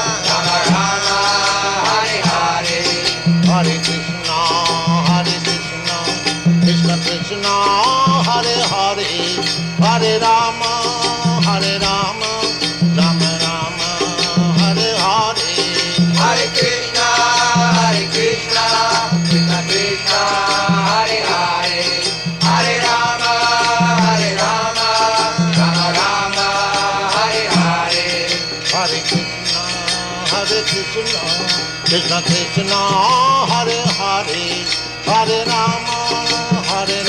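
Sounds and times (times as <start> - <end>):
jingling hand cymbals: 0.0 - 37.0
voices chanting in song: 0.0 - 37.0.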